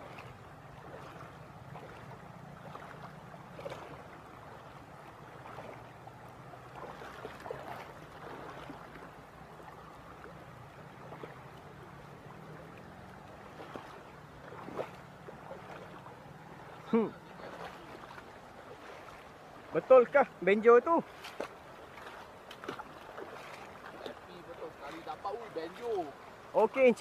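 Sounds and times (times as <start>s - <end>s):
river running over stones: 0.0s - 27.0s.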